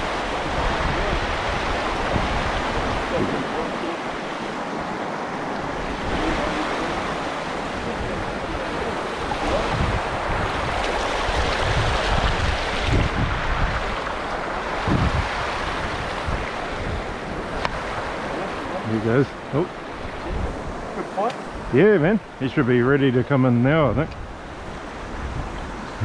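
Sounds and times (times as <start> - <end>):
stream rushing over stones: 0.0 - 26.0
wind buffeting microphone: 0.0 - 26.0.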